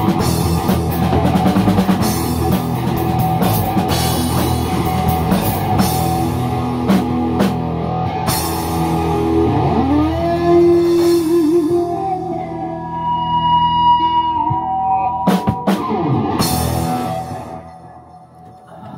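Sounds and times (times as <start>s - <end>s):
live rock band playing: 0.0s - 18.1s.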